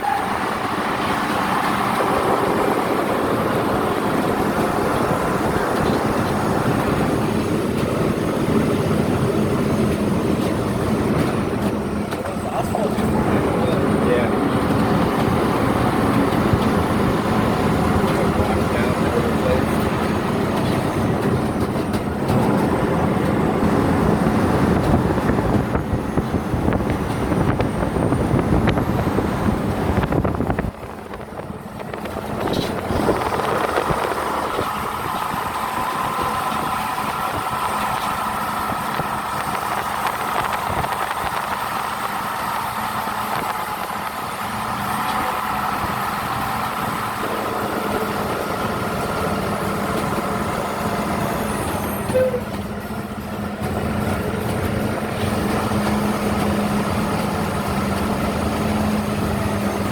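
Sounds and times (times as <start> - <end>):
vehicle running with rumble: 0.0 - 59.9.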